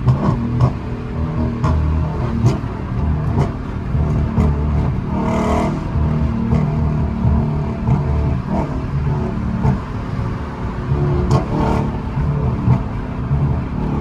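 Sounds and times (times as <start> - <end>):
car exhaust drone: 0.0 - 14.0.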